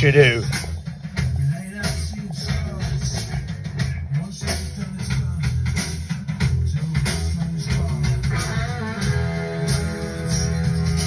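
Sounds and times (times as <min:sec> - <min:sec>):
rock band through car speakers: 0:00.0 - 0:11.0.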